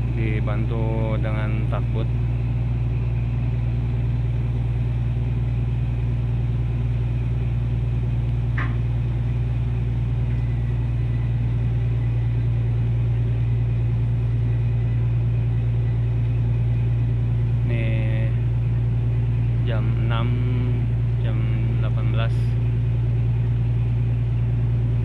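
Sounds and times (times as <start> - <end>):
ship engine drone: 0.0 - 25.0.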